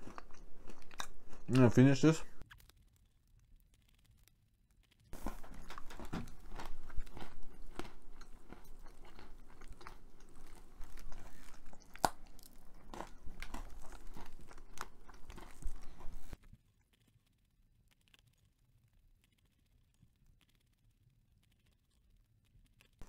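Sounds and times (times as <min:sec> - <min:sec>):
crunching and chewing pretzel: 0:00.0 - 0:23.0.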